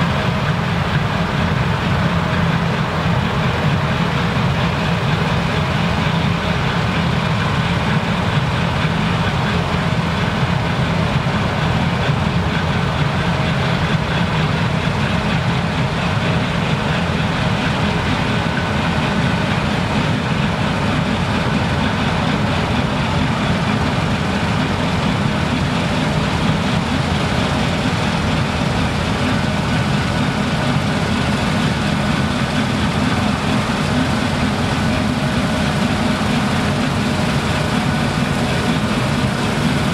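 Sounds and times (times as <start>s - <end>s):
combine harvester engine drone: 0.0s - 39.9s
faint steady whines: 0.0s - 39.9s.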